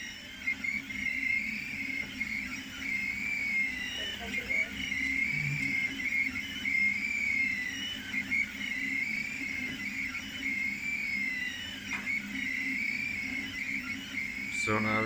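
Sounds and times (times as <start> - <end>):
steady low hum: 0.0 - 15.0
stepper motors whining: 0.0 - 15.0.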